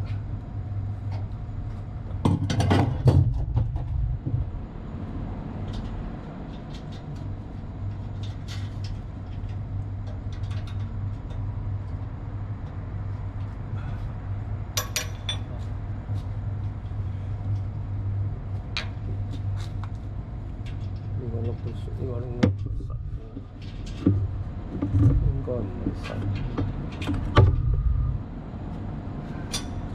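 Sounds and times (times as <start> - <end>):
low machinery hum: 0.0 - 29.9.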